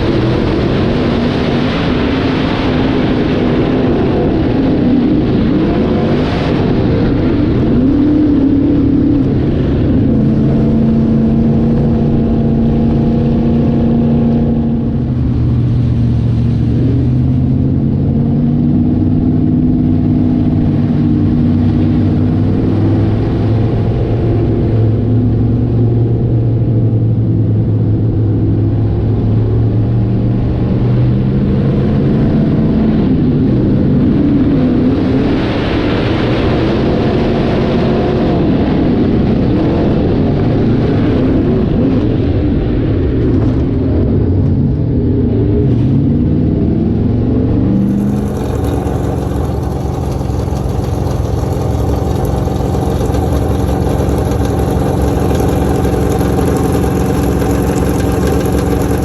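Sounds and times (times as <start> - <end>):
race car engines running hard: 0.0 - 59.0.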